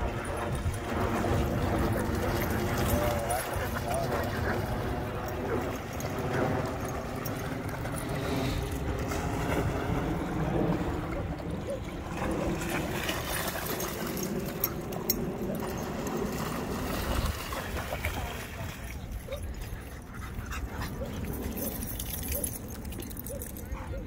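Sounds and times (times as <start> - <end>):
water splashing from dog playing: 0.0 - 24.0.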